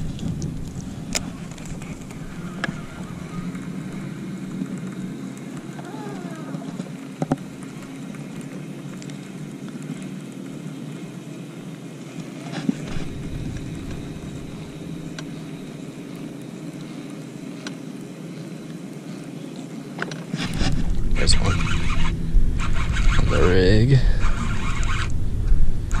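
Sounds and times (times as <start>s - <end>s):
electric trolling motor humming: 0.0s - 26.0s.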